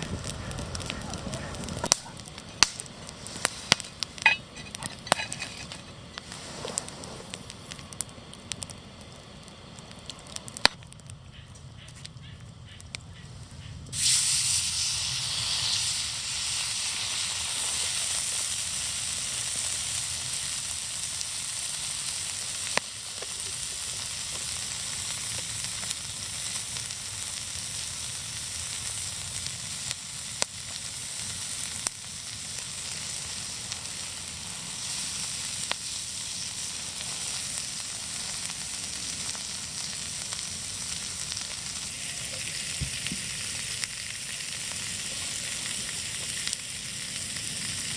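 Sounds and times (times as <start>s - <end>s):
meat sizzling on griddle: 0.0s - 10.8s, 13.9s - 47.9s.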